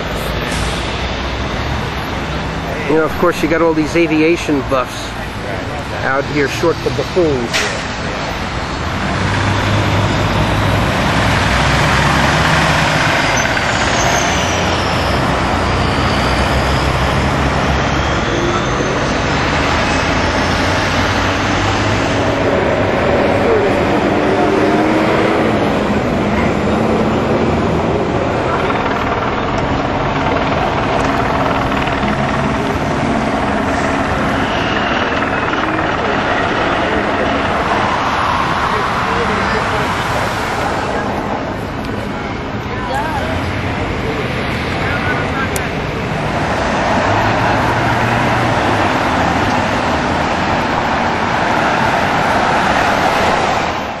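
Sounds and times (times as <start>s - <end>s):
loud engine noise: 0.0s - 54.0s
road traffic: 0.0s - 54.0s.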